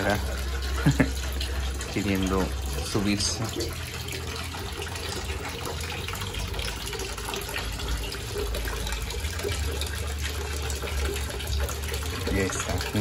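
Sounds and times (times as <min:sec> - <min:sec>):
water splashing into pond: 0:00.0 - 0:13.0.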